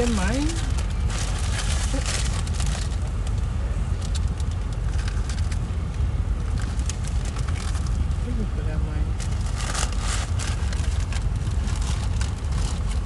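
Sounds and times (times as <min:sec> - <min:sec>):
car idling inside cabin: 0:00.0 - 0:13.0.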